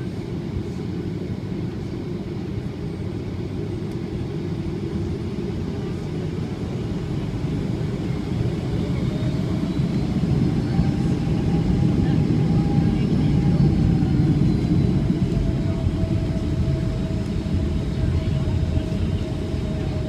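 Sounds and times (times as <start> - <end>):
airplane cabin rumble: 0.0 - 20.0
faint engine whine: 0.0 - 20.0.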